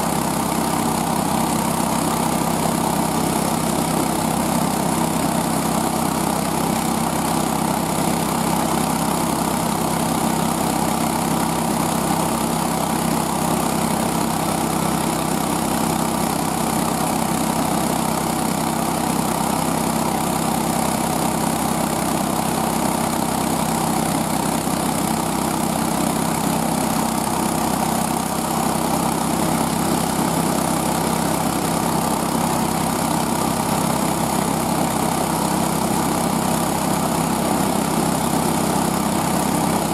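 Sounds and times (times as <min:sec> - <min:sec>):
small gas engine running: 0:00.0 - 0:39.9.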